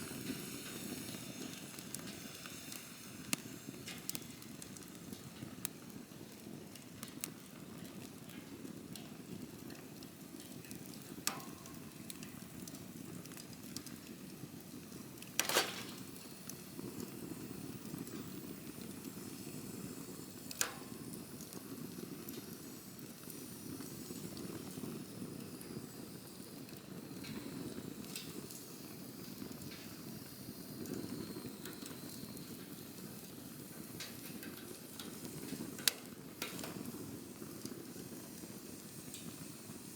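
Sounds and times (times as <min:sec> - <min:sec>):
wood crackling and popping: 0:00.0 - 0:25.9, 0:26.6 - 0:39.9
low rush of flames: 0:00.0 - 0:39.9.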